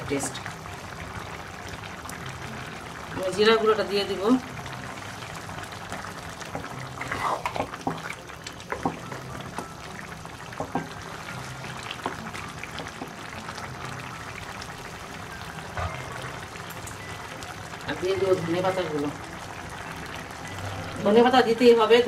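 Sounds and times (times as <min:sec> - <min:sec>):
curry simmering: 0:00.0 - 0:22.0.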